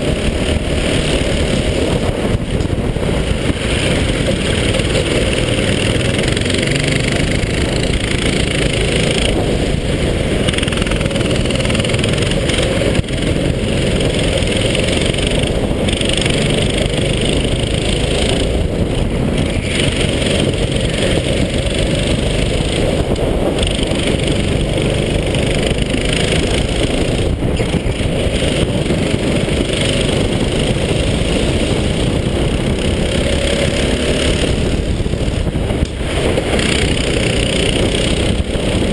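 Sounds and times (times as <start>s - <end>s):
go-kart engine racing: 0.0s - 38.9s
wind noise on camera: 0.0s - 38.9s.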